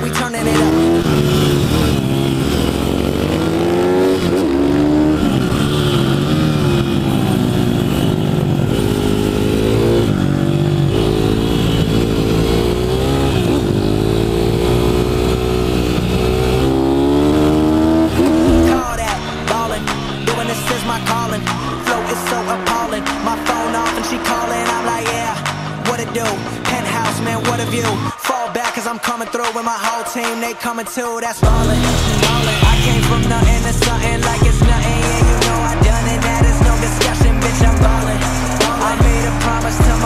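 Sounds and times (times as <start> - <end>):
small motorbike engine revving: 0.0 - 28.1, 31.4 - 40.0.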